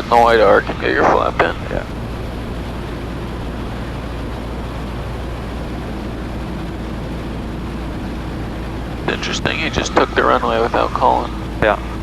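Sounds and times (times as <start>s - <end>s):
air noise: 0.0s - 12.0s
propeller aircraft engine drone: 0.0s - 12.0s.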